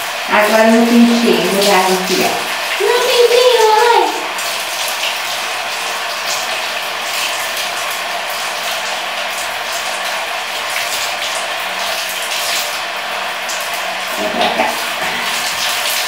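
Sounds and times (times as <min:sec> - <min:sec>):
shower water splashing on dog: 0:00.0 - 0:16.0.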